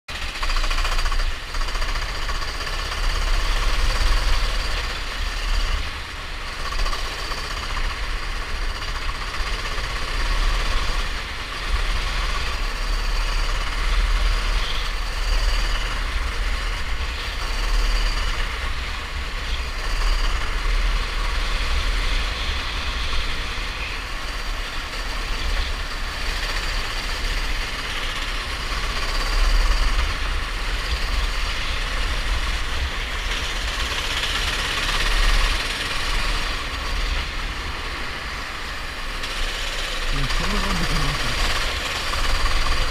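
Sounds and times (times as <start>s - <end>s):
go-kart engine running: 0.1s - 42.9s.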